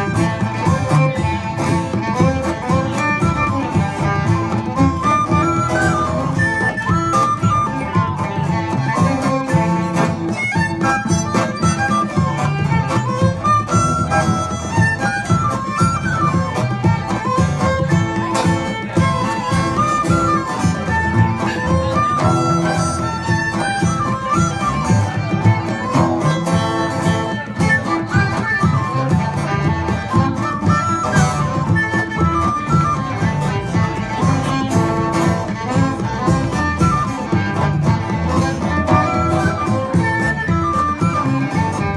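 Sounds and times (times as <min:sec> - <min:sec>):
bodhran drum beat: 0:00.0 - 0:41.9
fiddle melody: 0:00.0 - 0:41.9
strummed acoustic guitars: 0:00.0 - 0:41.9
upright bass: 0:00.0 - 0:41.9.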